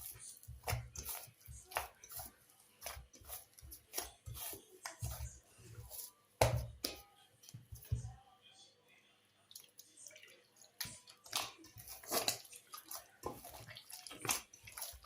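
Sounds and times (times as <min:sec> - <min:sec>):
hands handling dough: 0:00.0 - 0:08.2, 0:10.8 - 0:15.0.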